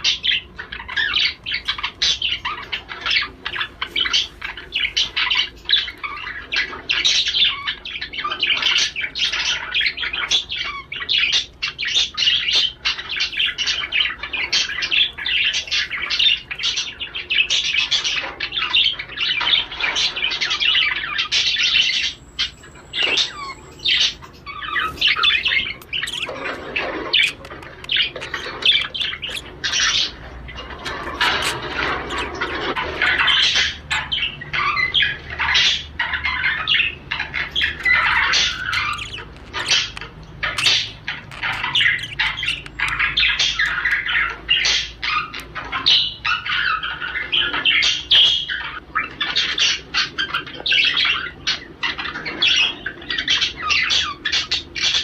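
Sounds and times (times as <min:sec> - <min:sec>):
budgerigar warbling and chattering: 0:00.0 - 0:55.0.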